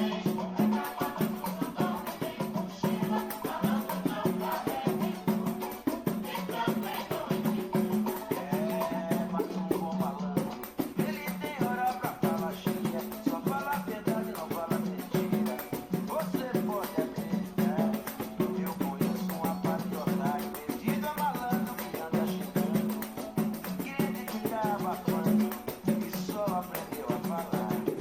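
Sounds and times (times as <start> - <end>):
samba music: 0.0 - 28.0.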